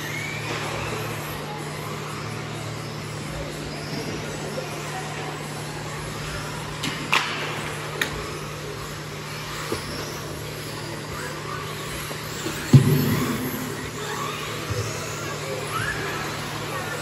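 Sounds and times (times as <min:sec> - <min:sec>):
rc cars humming and hissing: 0:00.0 - 0:17.0.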